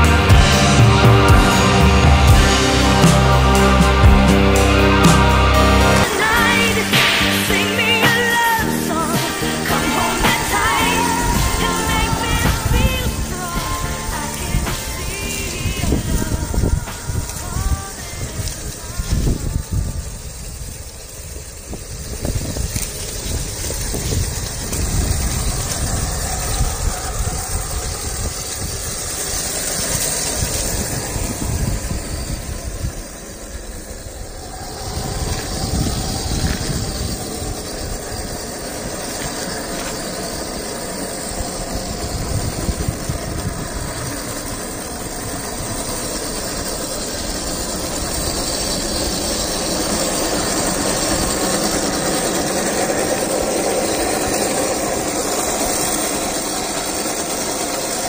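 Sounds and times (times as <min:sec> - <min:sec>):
electric motor whirring: 0:00.0 - 0:58.0
steady hiss: 0:00.0 - 0:58.0
wind gusts on microphone: 0:00.0 - 0:58.0.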